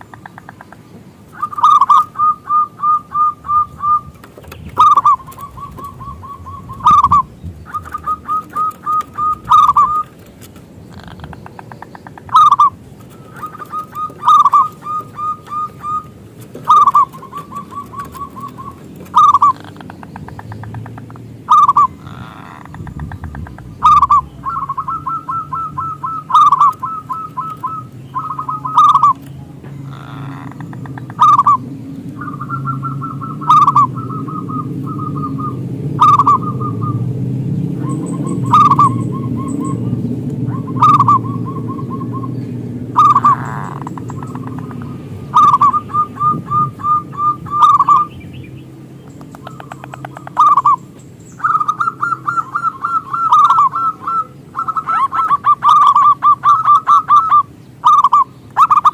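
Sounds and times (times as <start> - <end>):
dove cooing: 0.0 - 48.3, 49.1 - 58.9.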